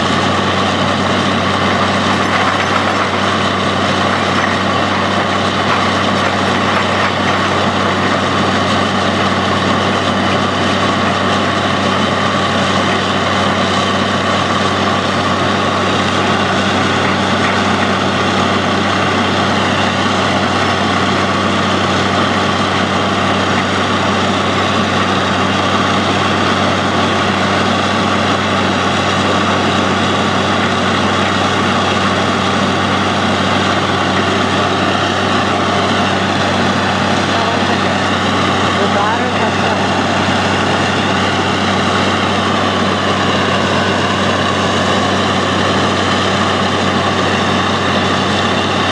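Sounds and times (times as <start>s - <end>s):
drilling rig engine running: 0.0s - 48.9s.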